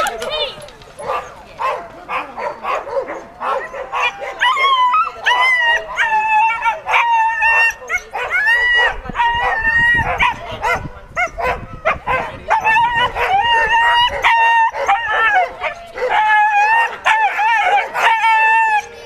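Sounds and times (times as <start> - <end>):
dogs yelping barking and howling: 0.0 - 19.0.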